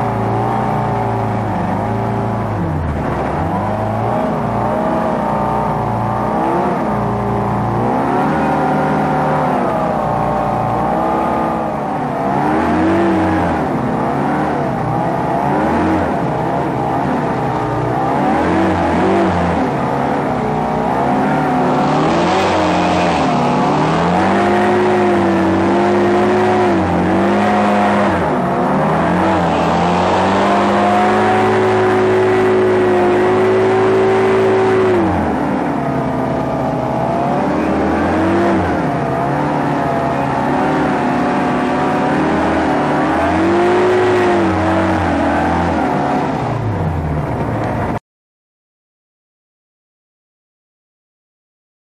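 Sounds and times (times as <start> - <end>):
hovercraft engine revving: 0.0 - 47.8.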